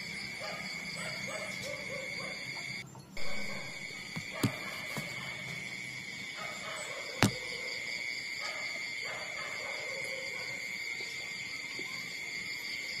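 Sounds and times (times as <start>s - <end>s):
shrill insect drone: 0.0s - 13.0s.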